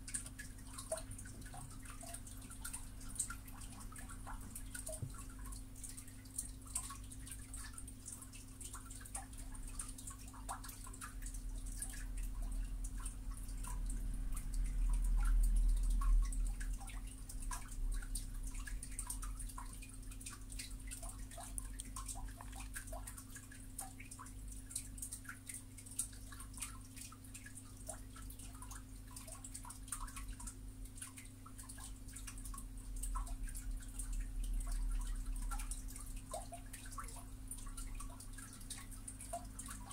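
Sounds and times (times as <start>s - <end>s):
faint small clicks and ticks: 0.0s - 39.9s.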